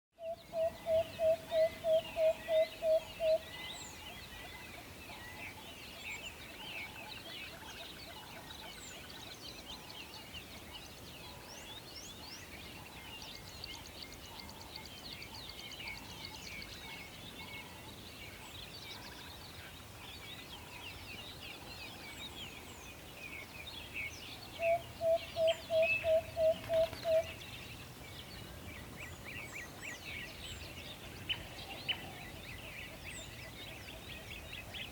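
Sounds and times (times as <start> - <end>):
songbirds chirping: 0.2 - 34.9.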